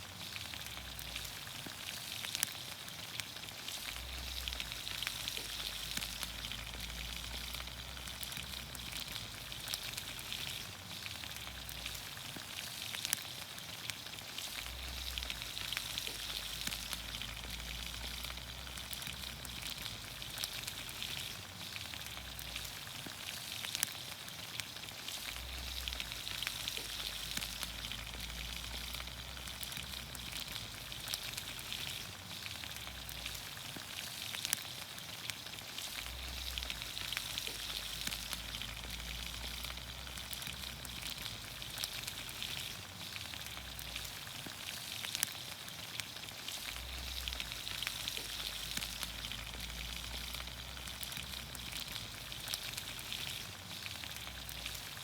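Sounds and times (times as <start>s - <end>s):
vegetables sizzling in oil: 0.0s - 55.0s
sharp pops and crackles: 0.2s - 55.0s.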